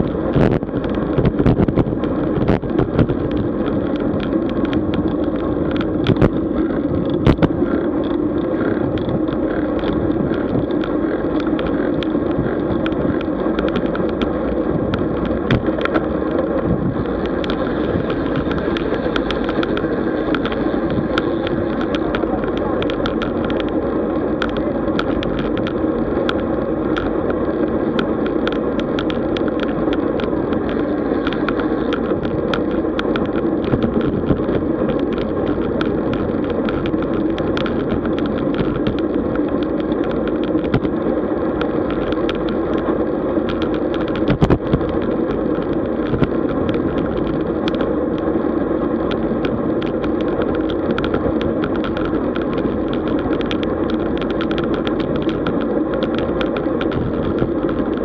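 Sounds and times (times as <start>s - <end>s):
bicycle rattles and clicks: 0.0s - 58.0s
wind and road noise: 0.0s - 58.0s.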